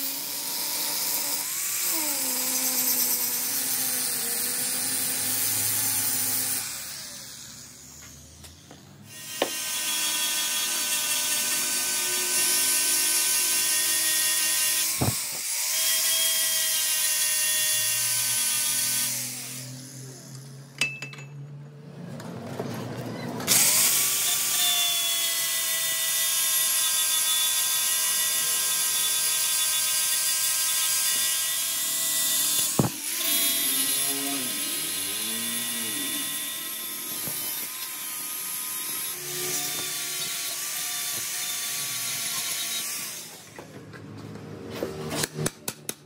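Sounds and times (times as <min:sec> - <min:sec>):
angle grinder grinding metal: 0:00.0 - 0:20.6, 0:23.5 - 0:43.8.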